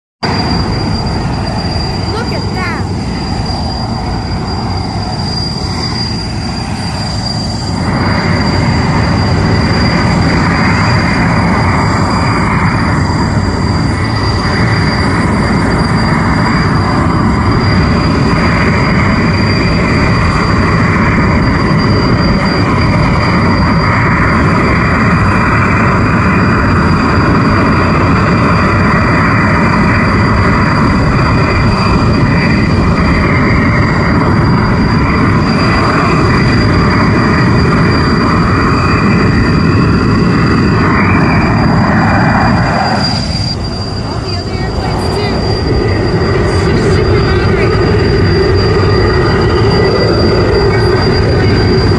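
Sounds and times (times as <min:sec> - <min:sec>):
helicopter engine and rotor: 0:00.2 - 0:51.9
high whine: 0:00.2 - 0:51.9.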